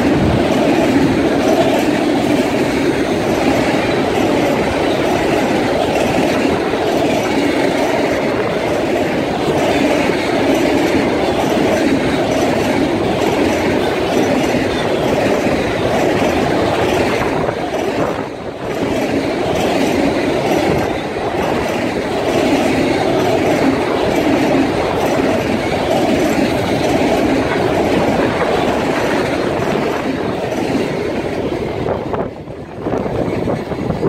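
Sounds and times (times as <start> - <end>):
freight train wheels clattering: 0.0 - 34.0.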